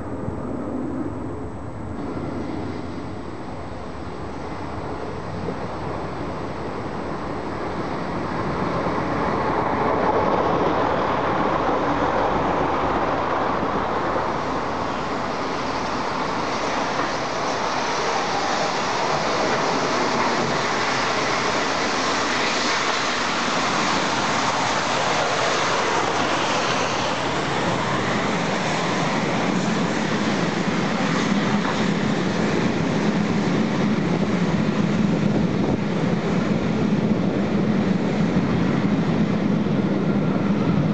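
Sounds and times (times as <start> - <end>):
diesel train approaching: 1.5 - 40.9
steam locomotive rolling past: 2.0 - 40.9.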